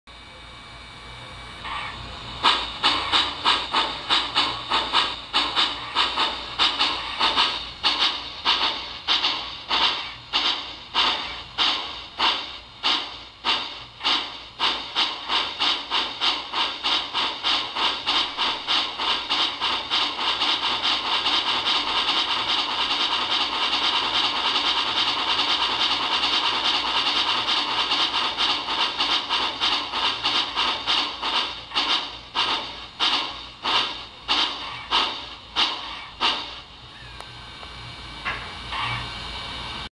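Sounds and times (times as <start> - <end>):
model steam locomotive chuffing: 0.2 - 39.9.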